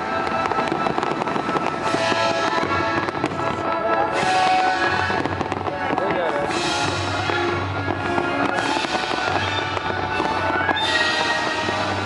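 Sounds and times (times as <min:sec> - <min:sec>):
fireworks reports and crackles: 0:00.0 - 0:12.0
music: 0:00.0 - 0:12.0.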